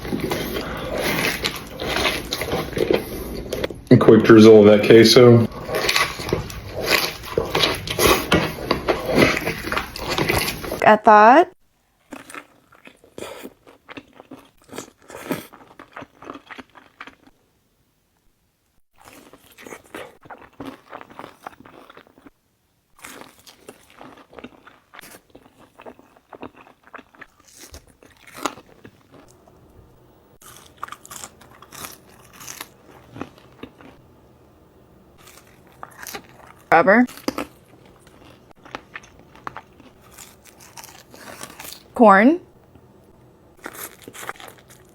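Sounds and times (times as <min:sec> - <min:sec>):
crunchy food being chewed: 0:00.0 - 0:03.8, 0:05.4 - 0:10.8, 0:12.0 - 0:17.4, 0:19.0 - 0:29.7, 0:30.4 - 0:34.1, 0:35.2 - 0:42.0, 0:42.7 - 0:44.9.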